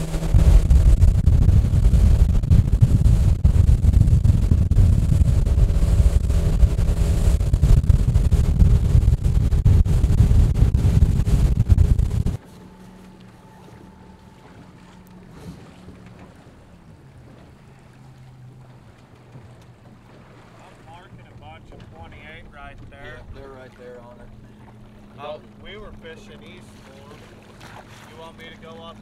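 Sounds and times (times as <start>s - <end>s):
wind buffeting microphone: 0.0s - 12.5s, 13.8s - 26.6s
boat engine droning: 0.0s - 29.0s
water rushing past hull: 0.0s - 29.0s.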